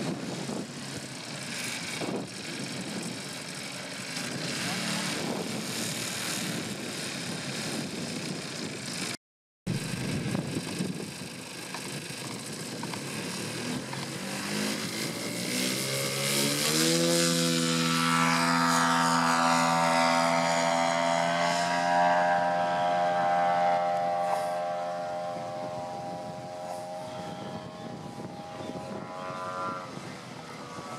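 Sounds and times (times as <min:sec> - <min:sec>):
model airplane engine revving: 0:00.0 - 0:30.9.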